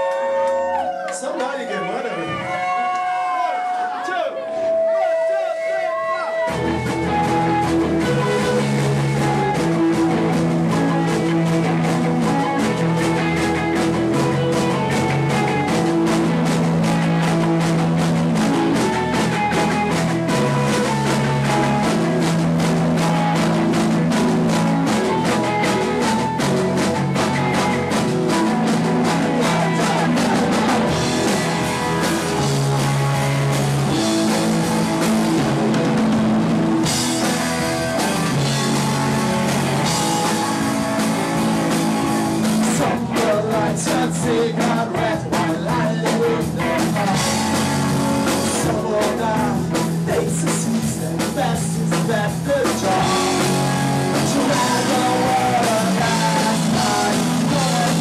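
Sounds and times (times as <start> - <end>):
punk rock band playing: 0.1 - 58.0
fast drumming on drum kit: 6.5 - 58.0.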